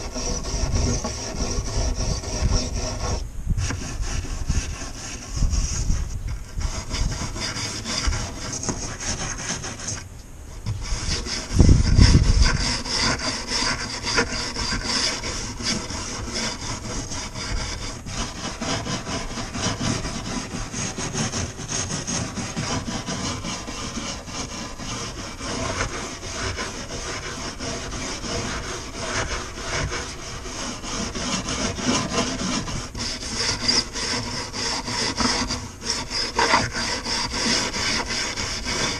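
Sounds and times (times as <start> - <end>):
hand scraping window frame: 0.0 - 38.9.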